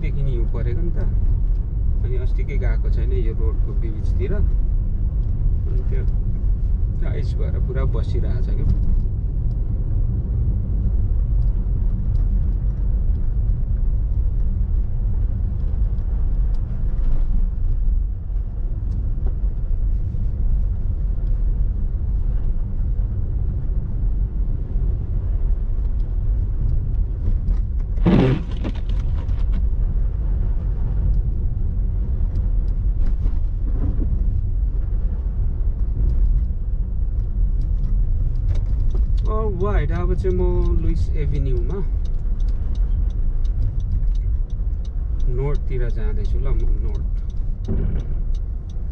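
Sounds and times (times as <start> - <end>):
car road noise rumble: 0.0 - 48.9.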